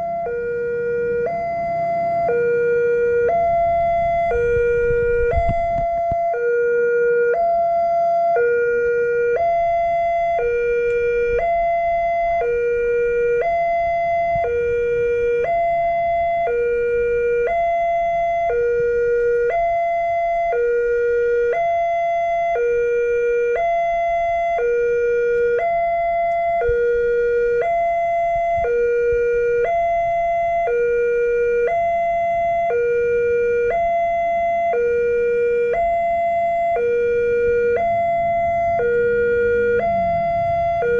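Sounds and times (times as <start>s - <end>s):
level crossing two-tone alarm: 0.0s - 40.9s.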